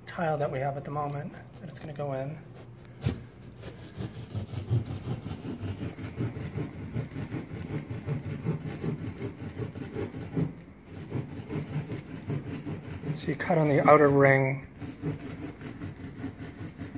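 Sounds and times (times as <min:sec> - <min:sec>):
knife sawing ceiling tile: 0:00.6 - 0:16.9.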